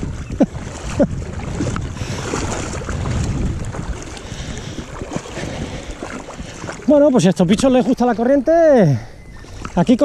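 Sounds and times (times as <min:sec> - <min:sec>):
wind on microphone: 0:00.0 - 0:09.9
water sloshing around wading legs: 0:00.0 - 0:10.0.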